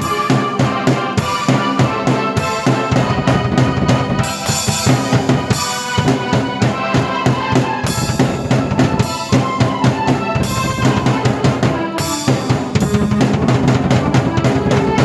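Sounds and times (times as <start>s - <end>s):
drum kit beat: 0.0s - 15.0s
keyboard chords and melody: 0.0s - 15.0s.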